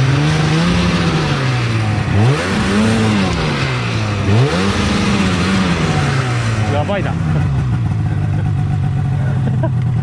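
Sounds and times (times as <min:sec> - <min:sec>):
snowmobile engine revving: 0:00.0 - 0:09.8.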